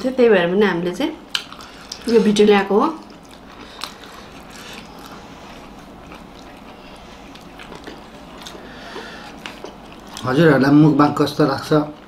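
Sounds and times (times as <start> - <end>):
people chewing: 1.2 - 12.0.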